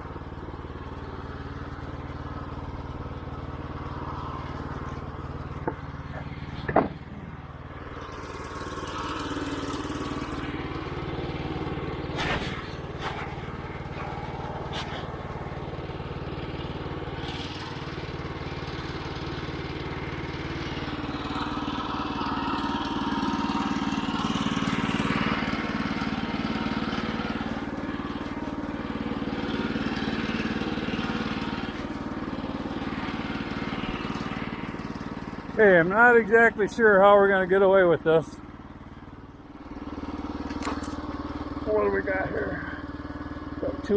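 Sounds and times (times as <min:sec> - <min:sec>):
sawmill gas engine running: 0:00.0 - 0:43.9.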